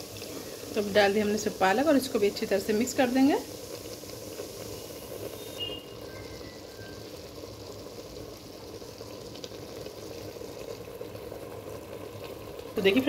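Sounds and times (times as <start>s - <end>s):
curry sizzling and bubbling in pot: 0.0s - 13.0s.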